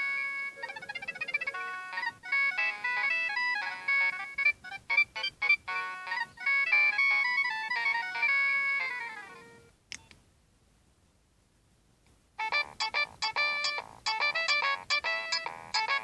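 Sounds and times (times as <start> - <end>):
polyphonic ringtone melody: 0.0 - 9.7, 12.4 - 16.0.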